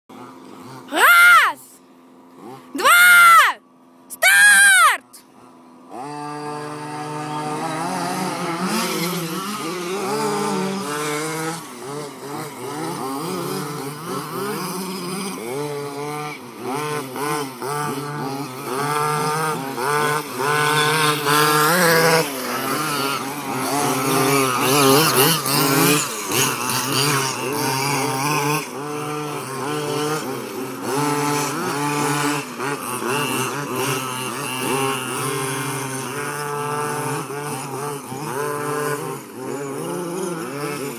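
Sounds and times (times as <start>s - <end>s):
low engine drone: 0.1s - 40.9s
rc truck engines revving: 0.1s - 40.9s.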